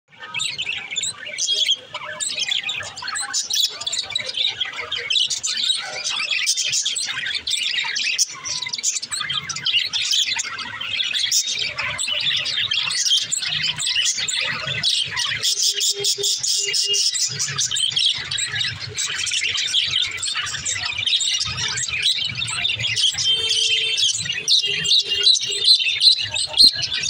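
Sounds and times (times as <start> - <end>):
budgerigars chirping and warbling: 0.1 - 27.0.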